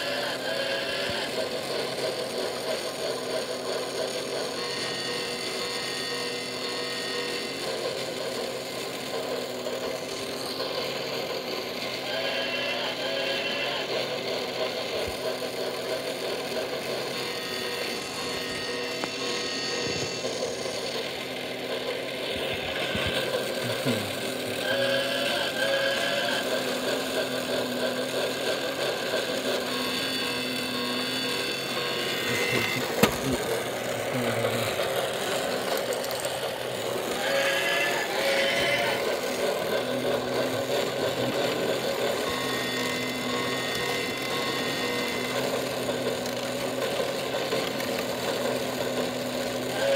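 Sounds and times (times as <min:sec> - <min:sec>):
toy train motor whirring: 0:00.0 - 0:49.9.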